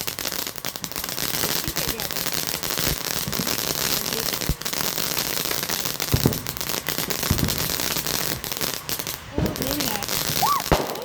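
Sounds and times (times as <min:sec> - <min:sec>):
firework crackling: 0:00.0 - 0:11.0
firework pops: 0:00.0 - 0:11.0.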